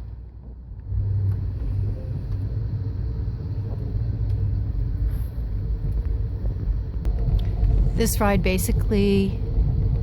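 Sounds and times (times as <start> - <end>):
moving train noise: 0.0 - 10.0.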